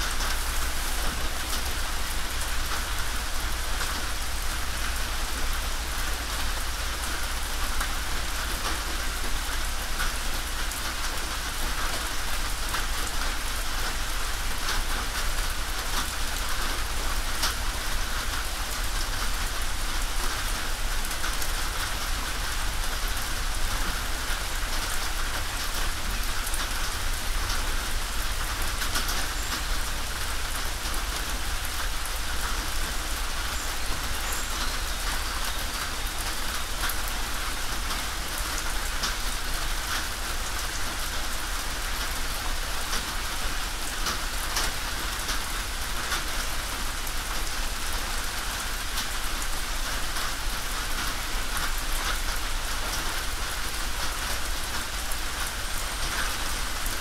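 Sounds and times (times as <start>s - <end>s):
rain on a tin roof: 0.0s - 57.0s.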